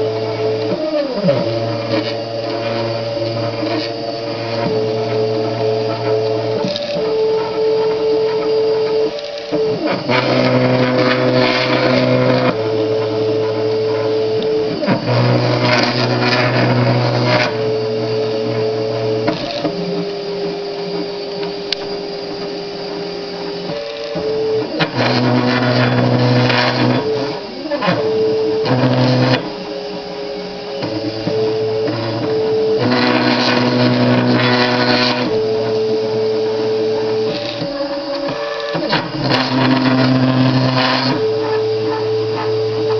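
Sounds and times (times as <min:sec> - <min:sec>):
stepper motors whining: 0:00.0 - 0:42.9.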